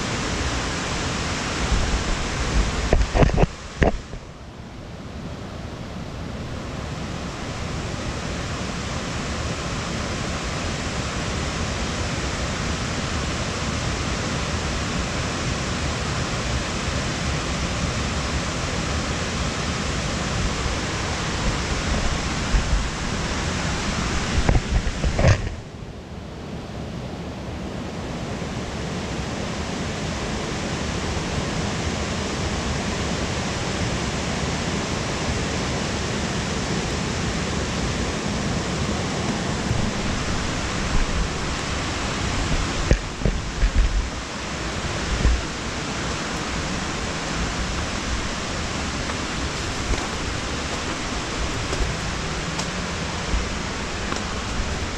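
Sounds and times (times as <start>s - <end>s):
mountain creek rushing: 0.0s - 54.9s.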